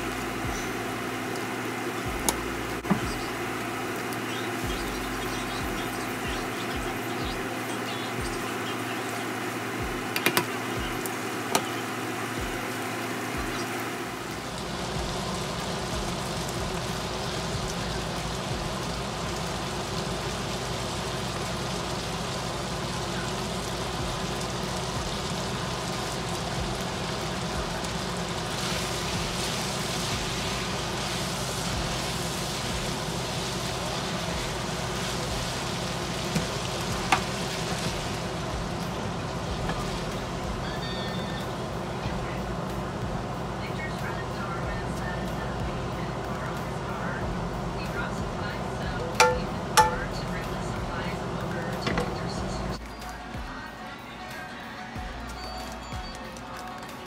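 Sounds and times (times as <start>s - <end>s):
steady low hum: 0.0s - 53.6s
food sizzling in oil: 0.0s - 57.0s.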